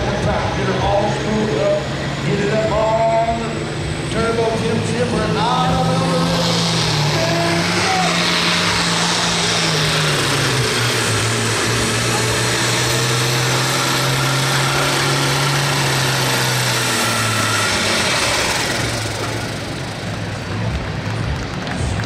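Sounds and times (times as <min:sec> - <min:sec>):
tractor diesel engine at full power: 0:00.0 - 0:22.0.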